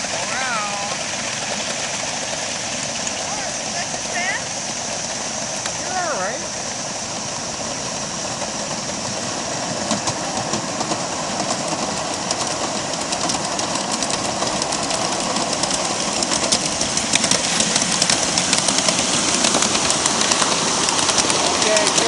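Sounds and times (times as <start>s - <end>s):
miniature train running: 0.0s - 22.0s
wheels clicking over rail joints: 0.0s - 22.0s.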